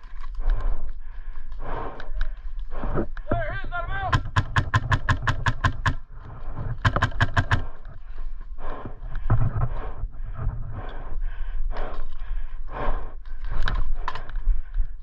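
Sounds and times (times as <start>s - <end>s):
heavy rhythmic breathing: 0.0s - 15.0s.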